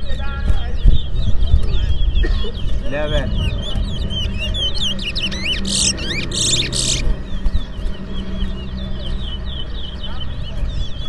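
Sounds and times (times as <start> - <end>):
finch song chirps: 0.0 - 11.0.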